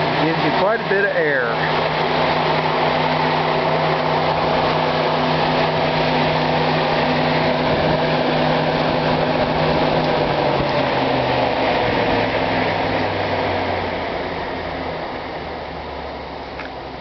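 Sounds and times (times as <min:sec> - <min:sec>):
electric cooling fan whirring: 0:00.0 - 0:17.0.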